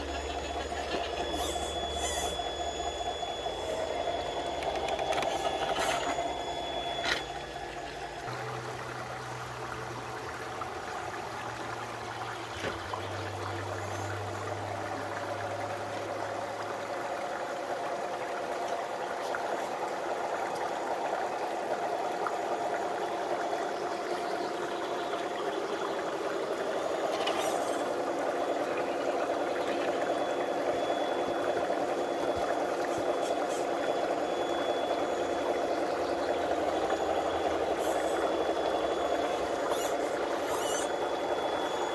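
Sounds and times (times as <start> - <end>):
faint electric motor whirr: 0.0 - 15.5, 21.8 - 41.9
creek water running over rocks: 0.0 - 41.9.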